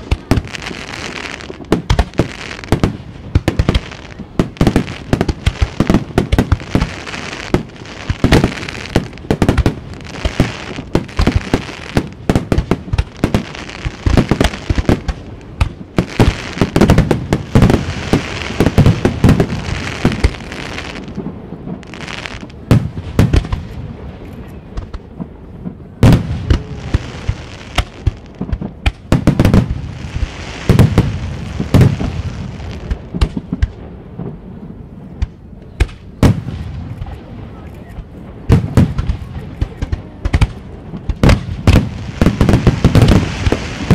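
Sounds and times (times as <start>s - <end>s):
firework bangs: 0.0s - 43.9s
firework crackling: 0.0s - 43.9s.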